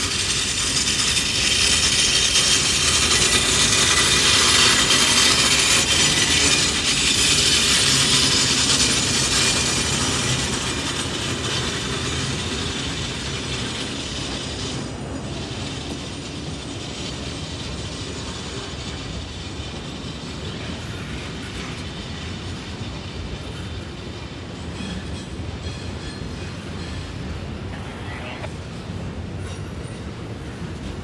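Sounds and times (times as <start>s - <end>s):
freight cars rolling and rattling: 0.0s - 31.0s.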